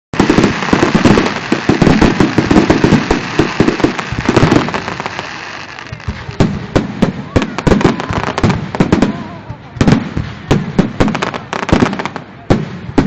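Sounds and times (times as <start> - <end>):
fireworks bangs and crackling: 0.1 - 13.0.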